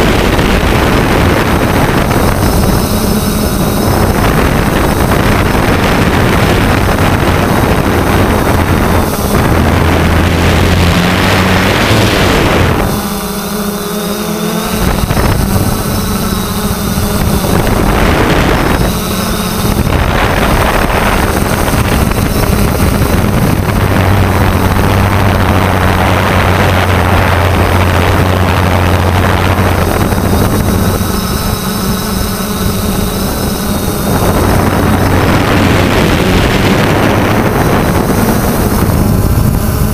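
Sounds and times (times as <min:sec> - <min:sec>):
drone motors humming: 0:00.0 - 0:39.9
wind rush on microphone: 0:00.0 - 0:39.9.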